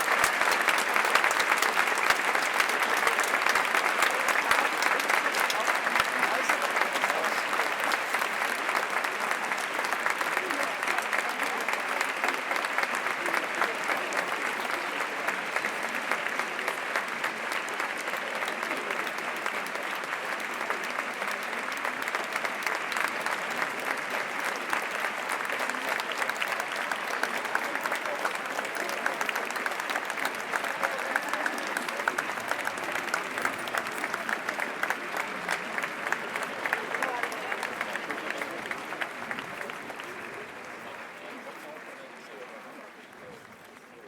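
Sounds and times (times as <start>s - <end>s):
audience applause: 0.0s - 44.0s.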